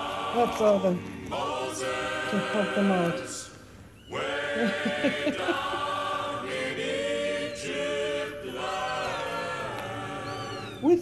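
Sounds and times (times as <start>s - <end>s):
choir singing long chords: 0.0s - 10.8s.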